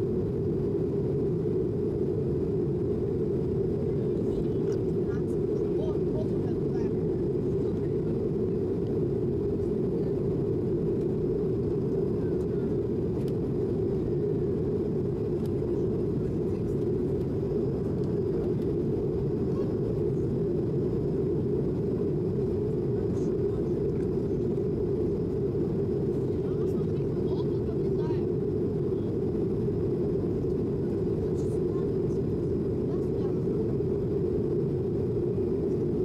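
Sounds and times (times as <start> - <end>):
jet engine cabin rumble: 0.0 - 36.0.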